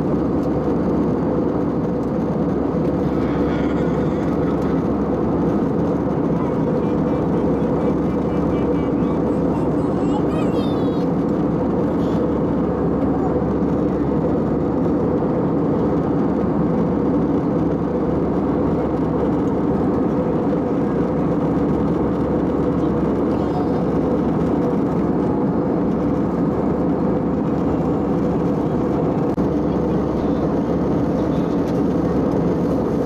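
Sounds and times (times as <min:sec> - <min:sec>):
airliner cabin jet engine hum: 0:00.0 - 0:33.0.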